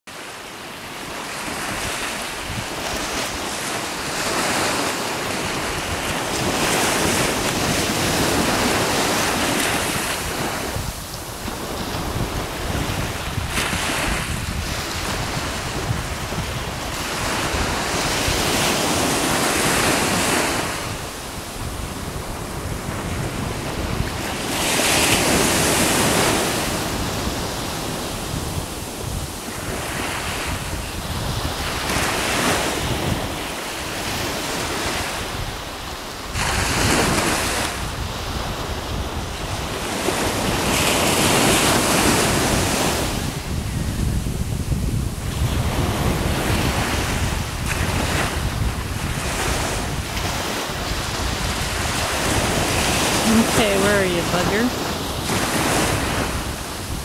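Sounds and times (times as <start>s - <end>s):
ocean waves: 0.1s - 57.0s
wind buffeting microphone: 0.2s - 57.0s.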